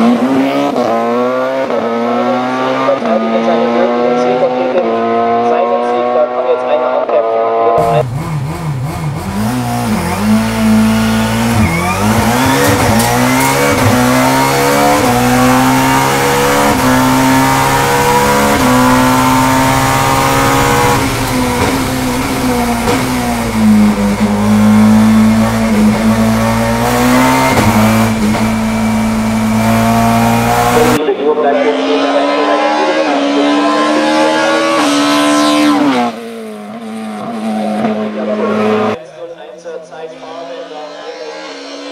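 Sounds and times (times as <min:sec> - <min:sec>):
race car engine revving: 0:00.0 - 0:39.0, 0:40.2 - 0:41.9.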